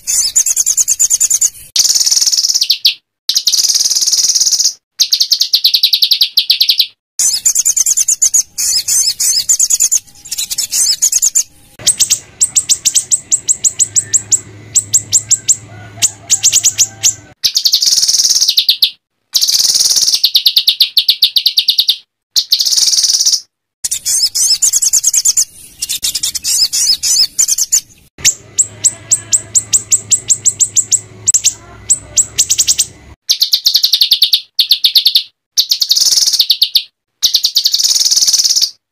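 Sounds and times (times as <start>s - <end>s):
songbird rapid harsh song: 0.0s - 38.8s.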